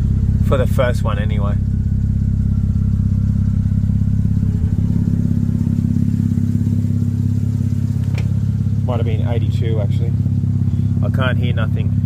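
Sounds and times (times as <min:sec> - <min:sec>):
rotary engine idling: 0:00.0 - 0:12.0.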